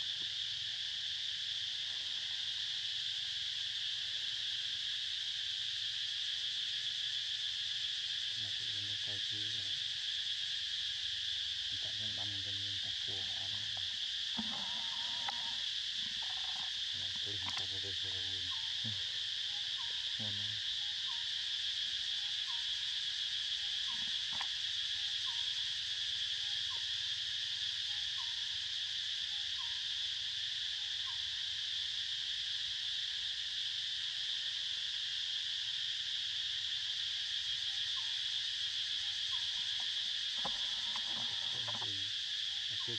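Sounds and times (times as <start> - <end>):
insect chorus droning: 0.0 - 42.9.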